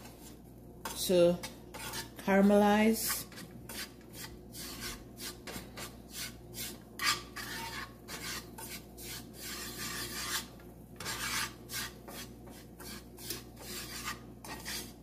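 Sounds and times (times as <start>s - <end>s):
spatula scraping sugar in a pan: 0.0s - 15.0s.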